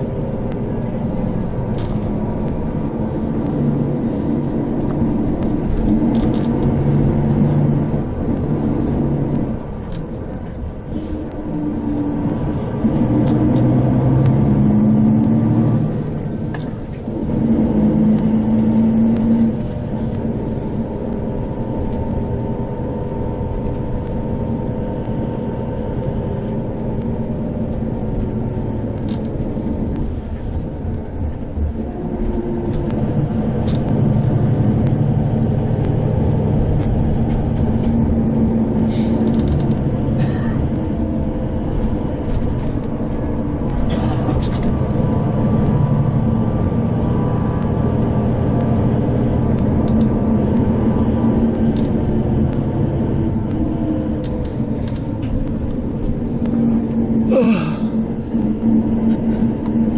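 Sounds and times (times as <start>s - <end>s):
bus engine running: 0.0s - 59.9s
tyres rumbling on road: 0.0s - 59.9s.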